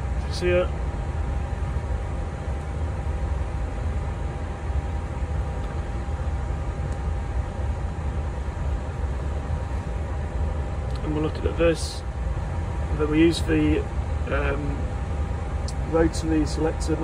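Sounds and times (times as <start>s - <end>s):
air conditioning and cooling fans: 0.0s - 17.0s
faint steady whine: 0.0s - 17.0s.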